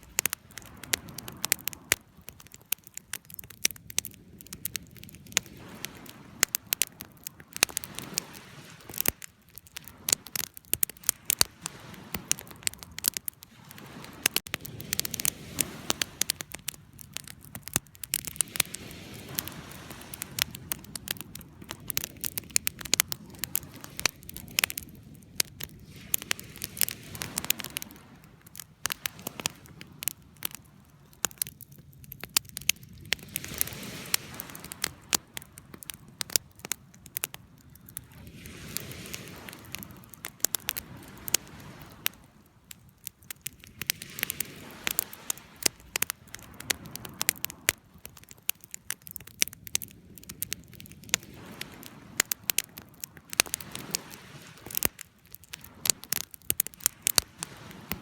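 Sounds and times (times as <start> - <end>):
low hiss of burning: 0.0 - 58.0
wood fire crackling and popping: 0.0 - 58.0.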